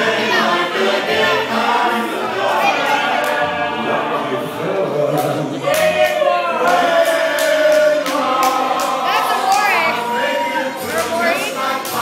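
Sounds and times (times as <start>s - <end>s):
choir singing: 0.0s - 12.0s
music: 0.0s - 12.0s.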